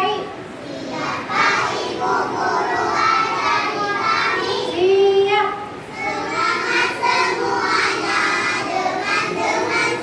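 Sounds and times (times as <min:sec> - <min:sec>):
children singing together: 0:00.6 - 0:04.8, 0:05.9 - 0:10.0.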